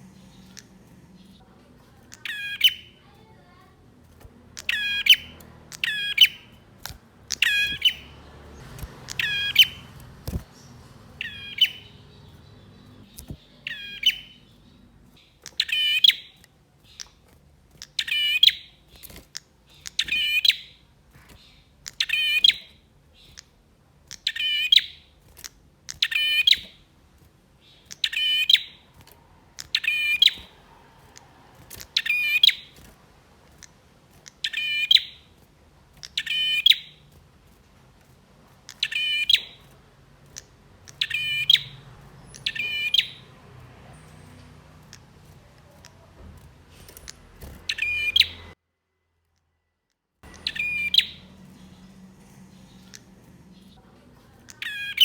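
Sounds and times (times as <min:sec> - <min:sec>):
bird chirping sharply: 0:02.0 - 0:17.2, 0:17.8 - 0:23.5, 0:24.1 - 0:25.1, 0:25.9 - 0:26.8, 0:27.6 - 0:32.9, 0:33.5 - 0:35.4, 0:36.0 - 0:37.1, 0:38.7 - 0:46.1, 0:46.7 - 0:48.6, 0:50.2 - 0:55.0.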